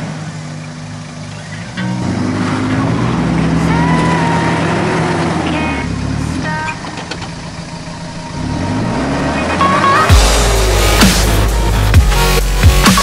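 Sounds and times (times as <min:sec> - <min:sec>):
engine revving on climb: 0:00.0 - 0:12.0
bass-driven electronic music: 0:01.4 - 0:13.0.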